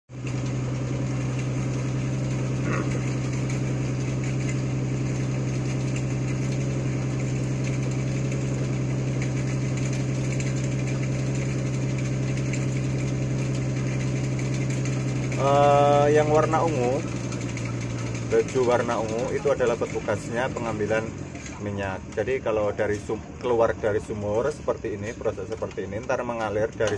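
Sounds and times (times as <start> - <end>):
engine running steadily: 0.0 - 26.9.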